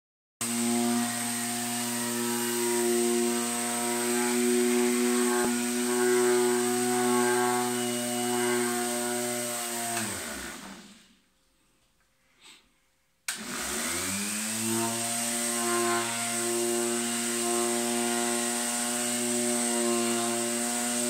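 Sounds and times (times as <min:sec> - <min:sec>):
electric sander running on wood: 0:00.4 - 0:11.0, 0:13.4 - 0:21.0
sander motor winding down: 0:00.4 - 0:11.0, 0:13.3 - 0:21.0.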